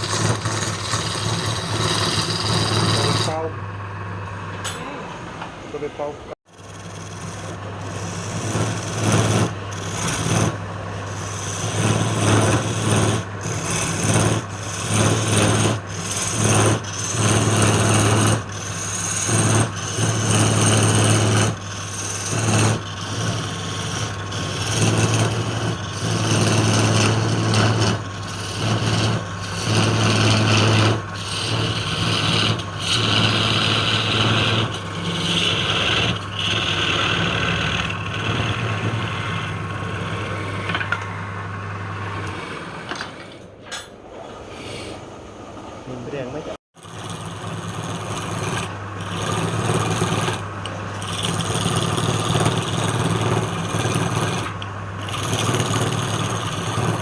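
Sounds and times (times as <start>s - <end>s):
turning tool scraping wood: 0.0s - 3.6s, 6.5s - 41.2s, 42.1s - 43.4s, 46.8s - 57.0s
wood lathe motor hum: 0.0s - 4.4s, 6.5s - 43.3s, 46.8s - 57.0s.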